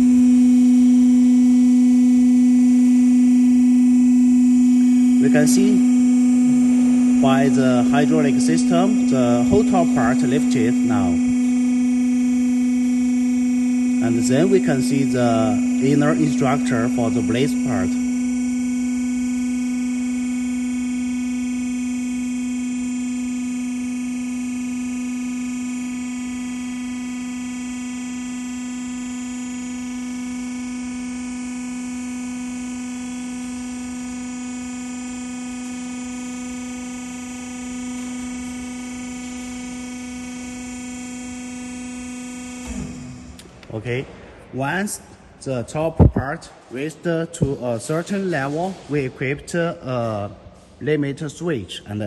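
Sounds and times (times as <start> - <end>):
hydraulic lift electric hum-whine: 0.0 - 52.0.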